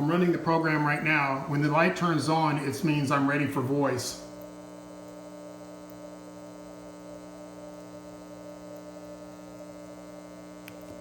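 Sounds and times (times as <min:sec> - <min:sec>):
buzzy electrical mains hum: 0:00.0 - 0:11.0.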